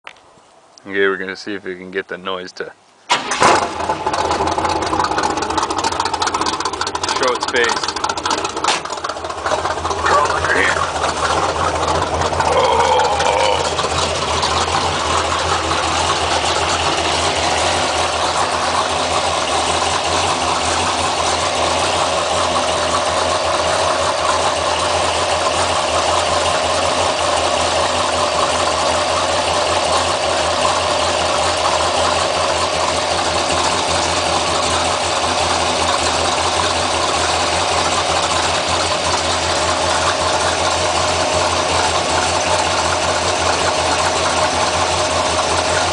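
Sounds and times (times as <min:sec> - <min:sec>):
engine idling: 0:03.1 - 0:45.9
grinding hum from engine: 0:03.1 - 0:45.9.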